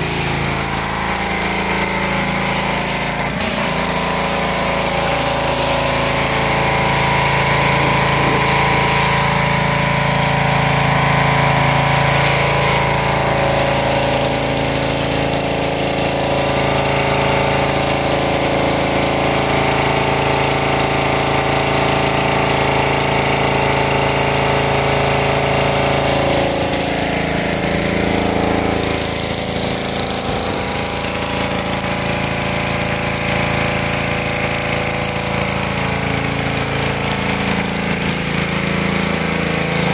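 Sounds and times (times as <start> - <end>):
pressure washer engine drone: 0.0 - 39.9
water jet spraying concrete: 0.0 - 39.9.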